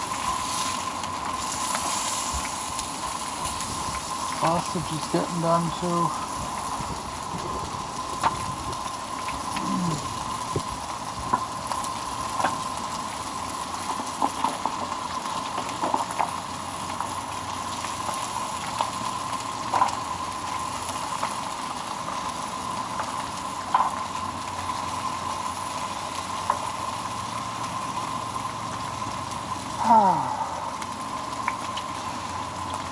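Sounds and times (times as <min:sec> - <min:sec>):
food sizzling in oil: 0:00.0 - 0:32.9.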